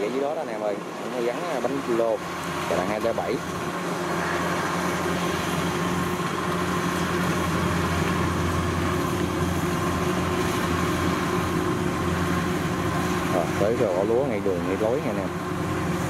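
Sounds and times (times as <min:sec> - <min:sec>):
combine harvester drone: 0:00.0 - 0:16.0.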